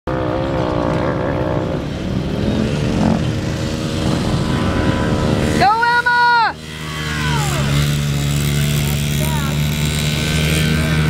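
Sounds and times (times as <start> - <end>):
dirt bike engine idling: 0.3 - 11.0.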